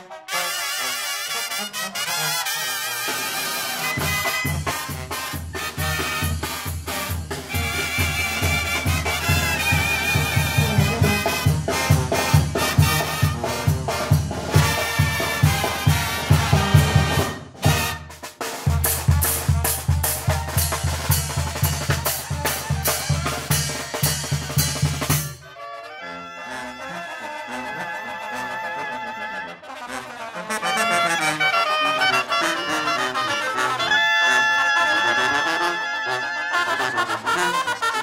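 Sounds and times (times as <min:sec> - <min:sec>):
brass band music: 0:00.0 - 0:38.0.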